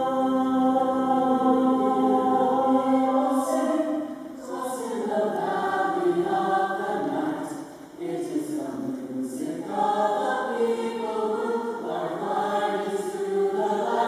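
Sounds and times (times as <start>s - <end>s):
singers performing on stage: 0.0s - 14.0s.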